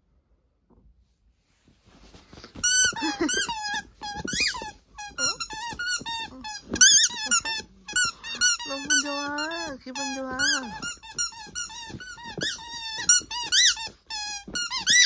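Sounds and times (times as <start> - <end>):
squeaky toy squeaking: 2.6 - 15.0.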